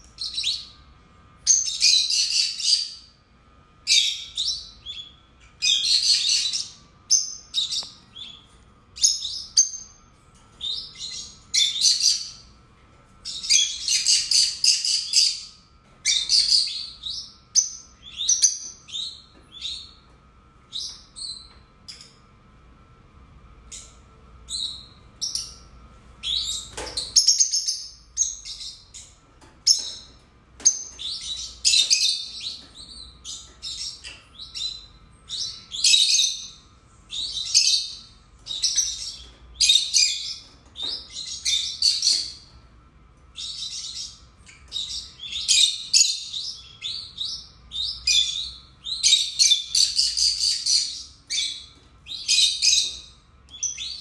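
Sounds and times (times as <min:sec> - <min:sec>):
lovebirds chirping and screeching: 0:00.0 - 0:03.1, 0:03.8 - 0:12.6, 0:13.2 - 0:20.1, 0:23.7 - 0:42.6, 0:43.3 - 0:54.0.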